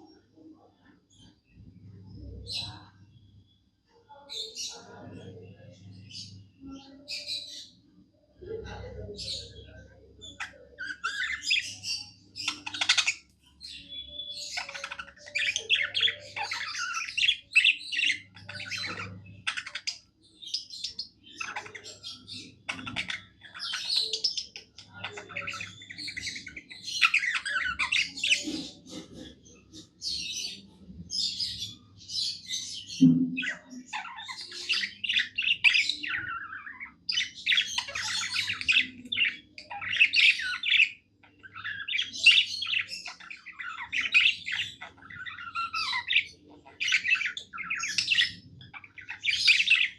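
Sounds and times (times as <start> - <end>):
budgerigars warbling chatter: 8.5 - 49.9.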